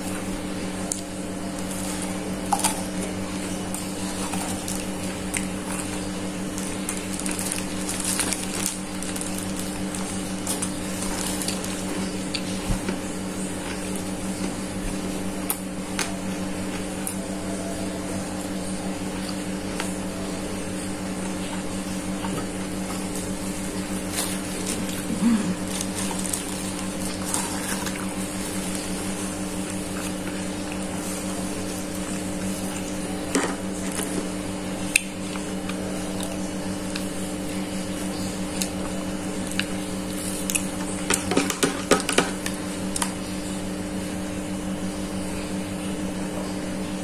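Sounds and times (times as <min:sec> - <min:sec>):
steady hum: 0:00.0 - 0:47.0
chewing crispy fried chicken: 0:00.2 - 0:41.6.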